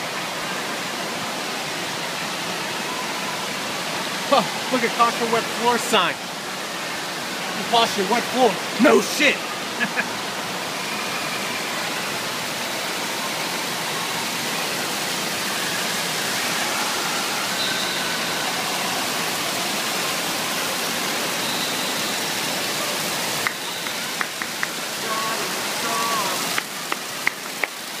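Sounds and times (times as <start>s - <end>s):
water rushing and splashing: 0.0s - 28.0s.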